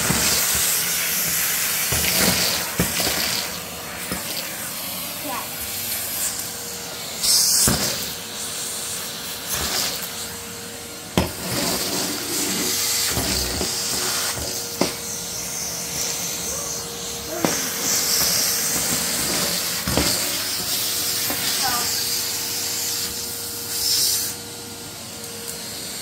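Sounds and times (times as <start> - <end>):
vacuum cleaner suction hiss: 0.0 - 26.0.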